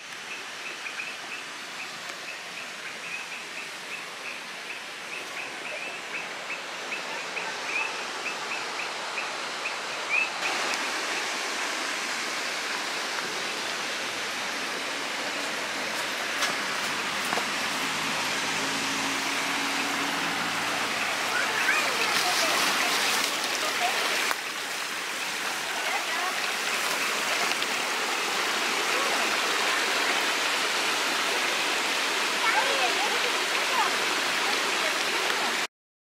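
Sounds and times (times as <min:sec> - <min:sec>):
stream and waterfall flowing: 0:00.0 - 0:35.7.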